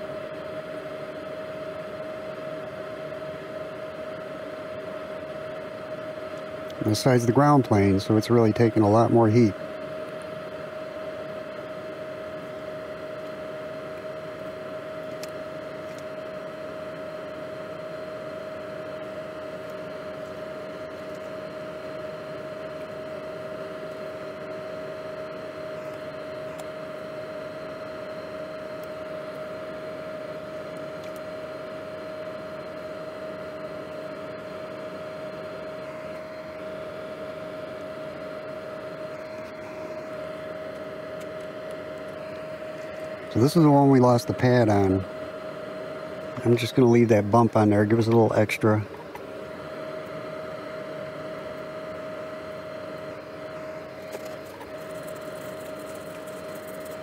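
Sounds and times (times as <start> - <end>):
electric fan humming: 0.0 - 57.0.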